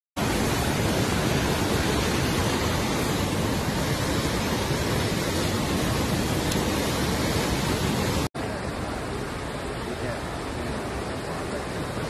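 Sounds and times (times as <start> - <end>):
floodwater rushing: 0.2 - 12.0.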